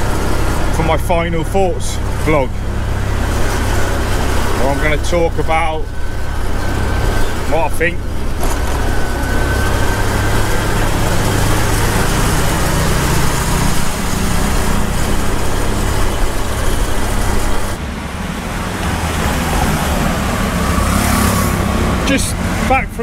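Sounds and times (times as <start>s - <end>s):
motorcycle running: 0.0s - 23.0s
road and wind noise: 0.0s - 23.0s.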